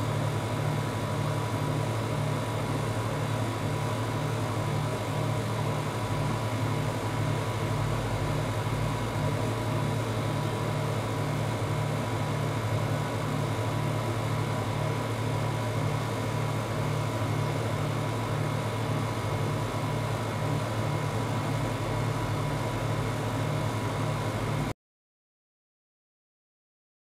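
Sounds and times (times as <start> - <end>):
low mechanical hum: 0.0 - 24.7.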